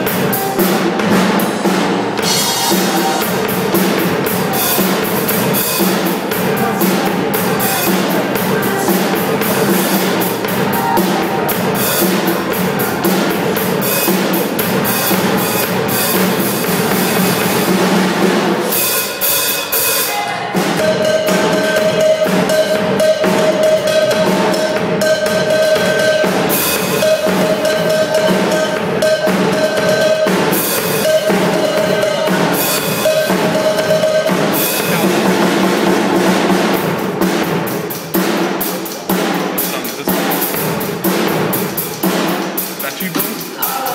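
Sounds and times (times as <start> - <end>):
drum kit playing a beat: 0.0 - 43.9.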